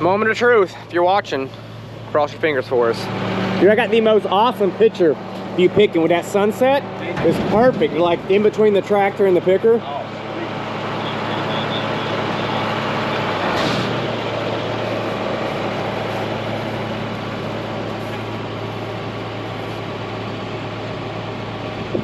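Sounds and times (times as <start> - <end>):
combine machine noise: 0.0 - 22.0
tractor engine hum: 0.0 - 22.0.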